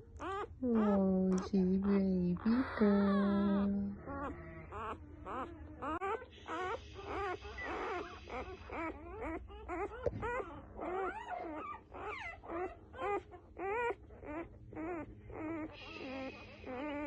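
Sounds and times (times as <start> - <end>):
puppy whimpering and squeaking: 0.0 - 17.0.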